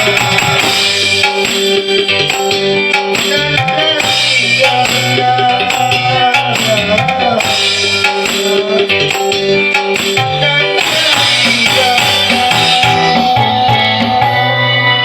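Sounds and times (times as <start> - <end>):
drums: 0.0 - 15.0
wavering melody: 0.0 - 15.0.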